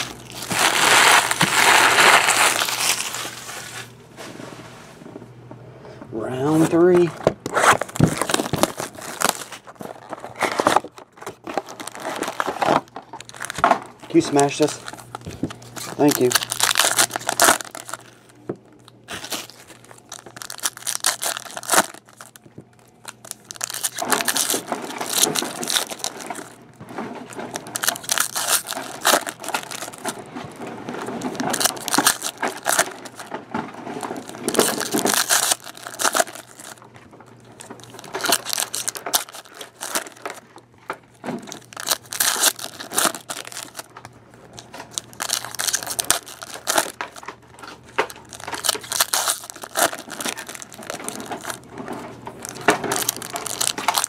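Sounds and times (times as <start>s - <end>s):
foil wrappers tearing and crumpling: 0.0s - 3.9s, 6.5s - 54.0s.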